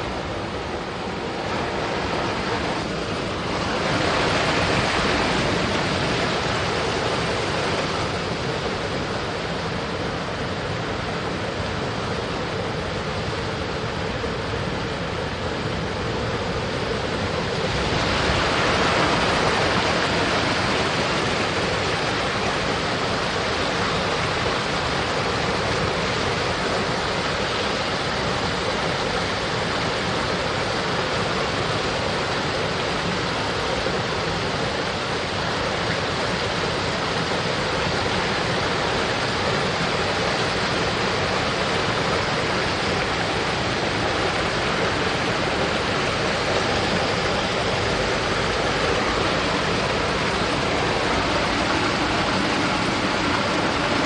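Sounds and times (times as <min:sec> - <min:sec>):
stream running over rocks: 0:00.1 - 0:54.0.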